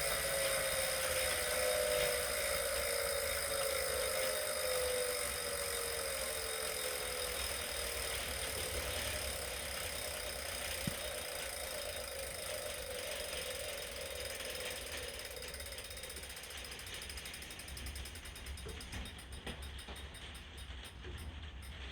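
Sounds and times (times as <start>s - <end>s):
flywheel whine falling in pitch: 0.0s - 18.2s
freehub ratchet clicking: 0.0s - 21.8s.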